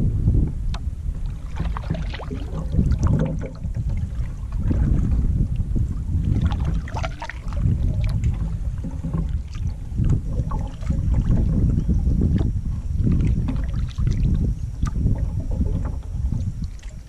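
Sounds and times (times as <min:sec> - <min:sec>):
wind rumbling on microphone: 0:00.0 - 0:17.0
paddle splashes and knocks: 0:00.7 - 0:17.0.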